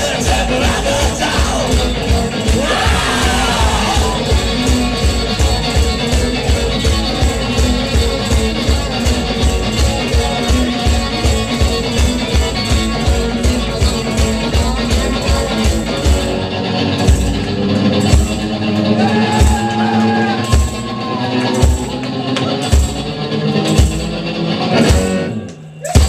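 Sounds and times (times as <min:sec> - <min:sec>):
live garage rock: 0:00.0 - 0:26.0.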